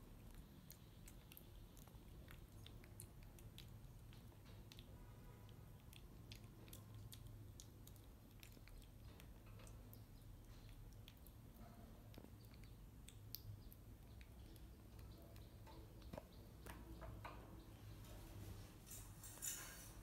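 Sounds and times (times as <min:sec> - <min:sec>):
monkey chewing and biting: 0:00.0 - 0:16.2.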